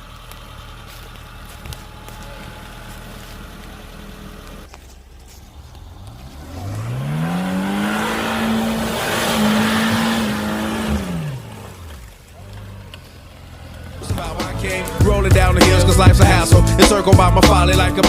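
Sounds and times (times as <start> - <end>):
off-road vehicle engine revving: 0.0 - 18.0
tyres churning: 0.0 - 18.0.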